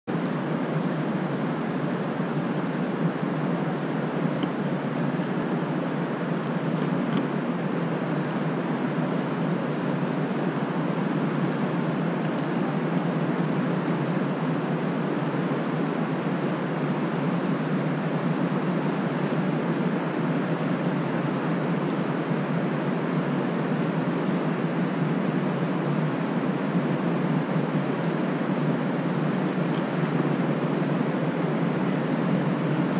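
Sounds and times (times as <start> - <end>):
whitewater roaring: 0.1 - 32.9.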